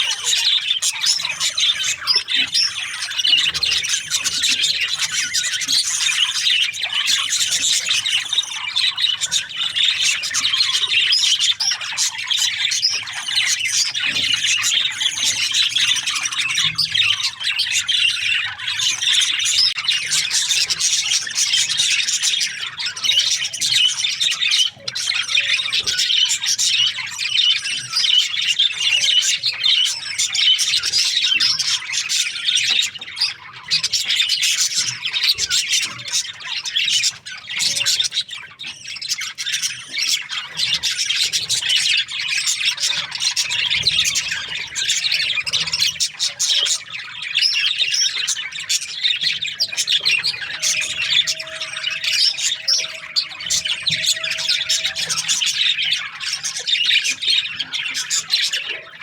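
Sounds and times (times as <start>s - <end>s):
budgerigars chirping and chattering: 0.0s - 59.0s.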